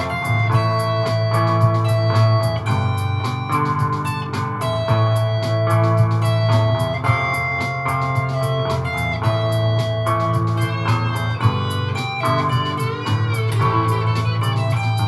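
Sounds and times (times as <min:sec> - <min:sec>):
electric guitar with looped layers: 0:00.0 - 0:15.0
even drum beat: 0:00.0 - 0:15.0
steady bass line: 0:00.0 - 0:15.0.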